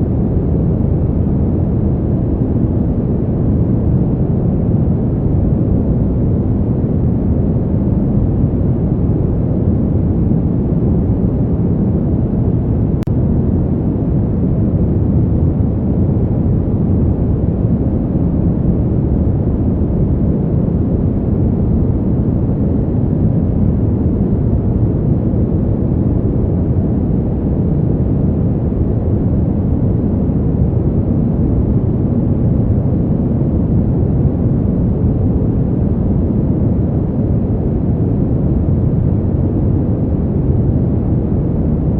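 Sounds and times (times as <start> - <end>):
deep rush of wind: 0.0 - 41.9.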